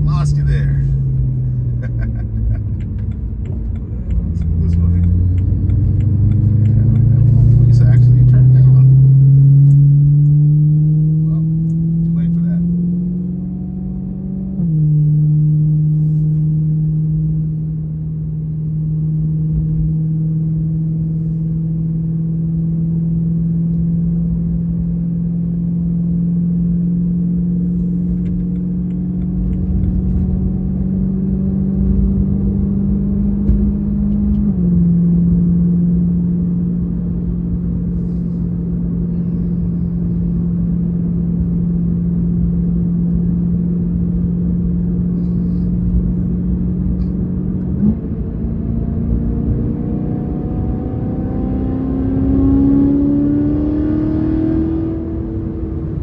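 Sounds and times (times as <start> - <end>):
car engine droning: 0.0 - 56.0.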